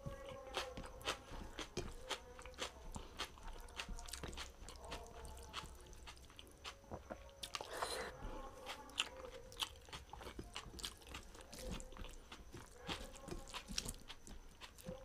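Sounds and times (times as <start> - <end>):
fingers mixing rice on steel plate: 0.0 - 6.8, 7.4 - 15.0
chewing and wet mouth smacking: 0.2 - 15.0.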